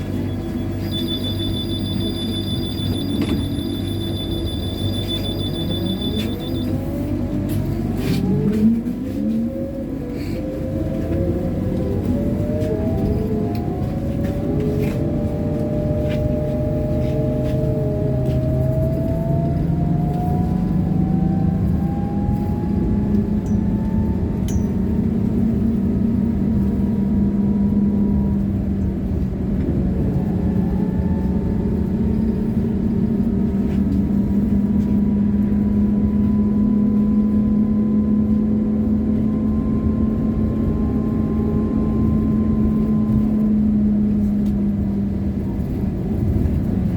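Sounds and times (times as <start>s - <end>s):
rumble of tyres and running gear: 0.0s - 46.9s.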